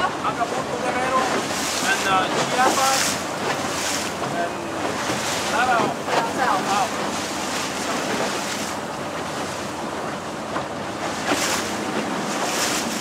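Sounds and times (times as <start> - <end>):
water splashing along boat hull: 0.0 - 13.0.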